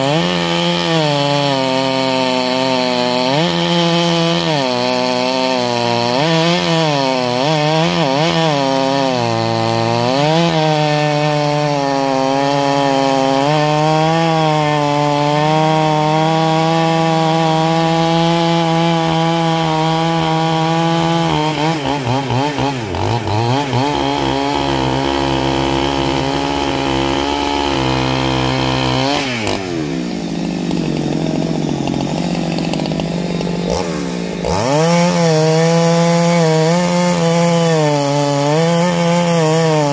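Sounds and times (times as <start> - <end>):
chainsaw sawing log: 0.0 - 39.9.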